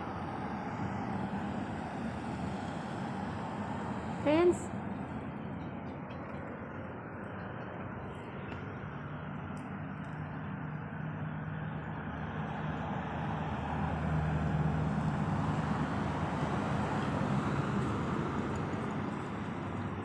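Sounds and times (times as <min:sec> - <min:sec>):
car passing: 0:00.0 - 0:20.0.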